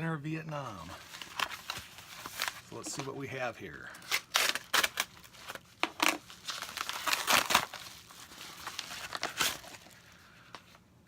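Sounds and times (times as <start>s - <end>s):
packaging crinkling and tearing: 0.7s - 3.2s, 4.0s - 10.8s.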